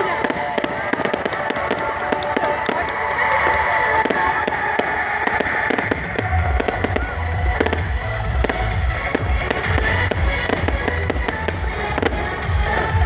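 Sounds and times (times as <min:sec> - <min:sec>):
heavy pulsing bass: 0:00.0 - 0:13.0
loud music over sound system: 0:00.0 - 0:13.0.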